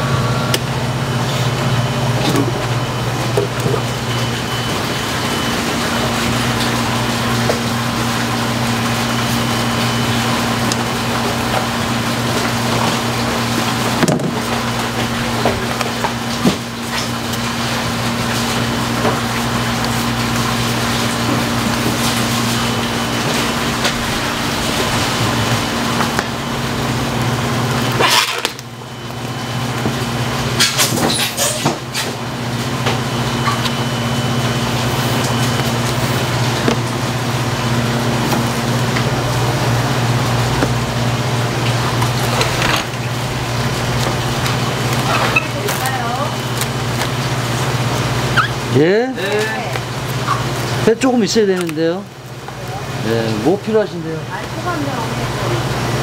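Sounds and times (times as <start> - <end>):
electric machine hum: 0.0 - 56.0.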